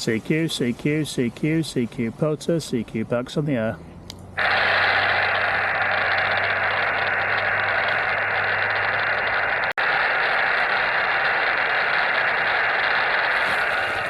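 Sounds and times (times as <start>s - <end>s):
radio static hiss: 0.0s - 3.8s, 4.4s - 14.0s.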